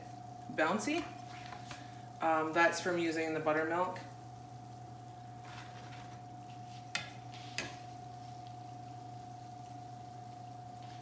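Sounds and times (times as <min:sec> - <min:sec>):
faint hum: 0:00.0 - 0:11.0
oil sizzling in a skillet: 0:00.0 - 0:11.0.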